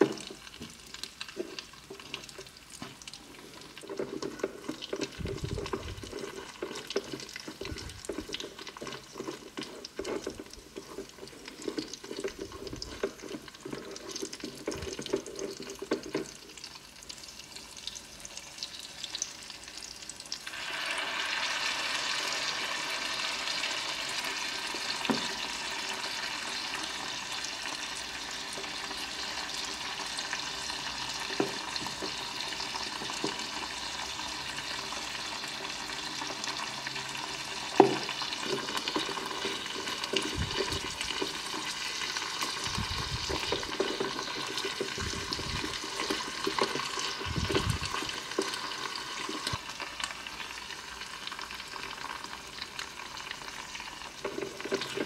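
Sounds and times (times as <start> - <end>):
wooden spatula scraping a wok: 0.0 - 16.6, 20.8 - 49.6, 53.5 - 55.0
frying sauce sizzling: 0.0 - 55.0.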